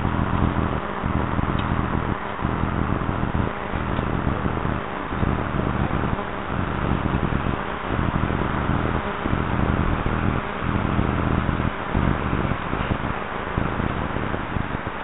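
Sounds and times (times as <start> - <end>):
steady hiss: 0.0 - 15.0
wind buffeting microphone: 0.0 - 15.0.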